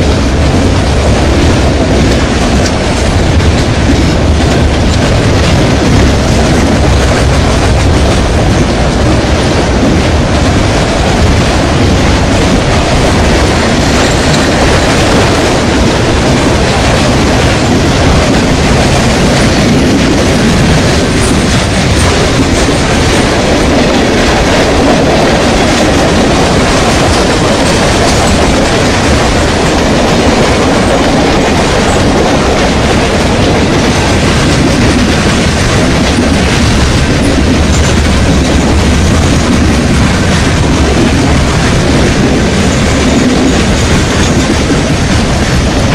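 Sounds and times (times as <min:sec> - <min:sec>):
train wheels clattering on rails: 0:00.0 - 0:45.9.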